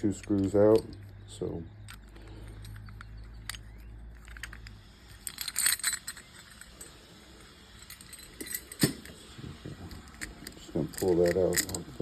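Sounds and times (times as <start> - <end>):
metal lock parts rattling: 0.0 - 9.2, 9.8 - 12.0.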